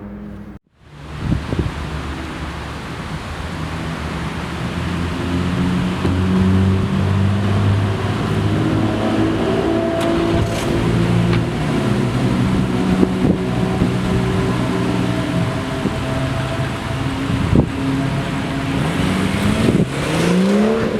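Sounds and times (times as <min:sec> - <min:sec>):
car engine idling: 0:00.0 - 0:20.3.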